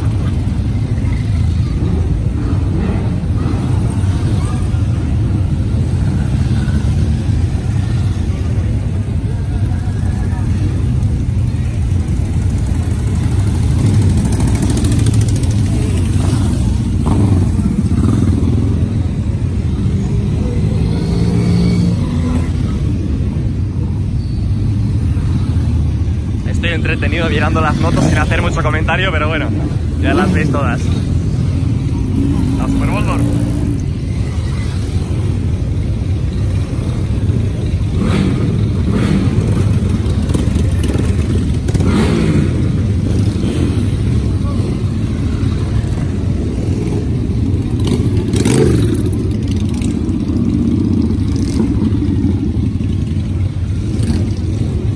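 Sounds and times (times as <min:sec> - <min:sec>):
motorcycle engines idling: 0:00.0 - 0:54.9
motorcycles riding past: 0:00.0 - 0:54.9.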